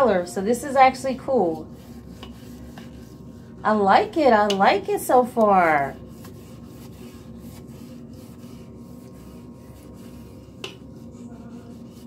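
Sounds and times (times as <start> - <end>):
brush scrubbing toilet bowl: 0.0 - 12.0.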